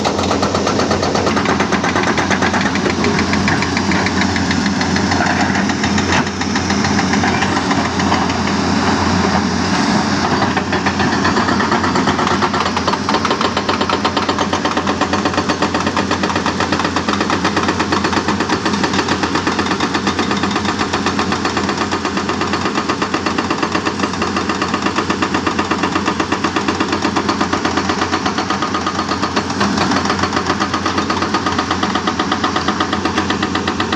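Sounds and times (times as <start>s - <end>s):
diesel engine running: 0.0s - 33.9s
hydraulic breaker hammering rock: 0.0s - 33.9s.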